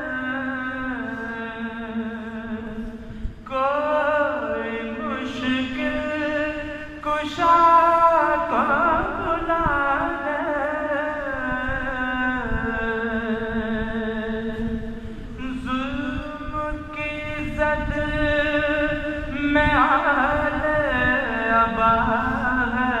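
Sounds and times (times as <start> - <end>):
man chanting: 0.0 - 23.0.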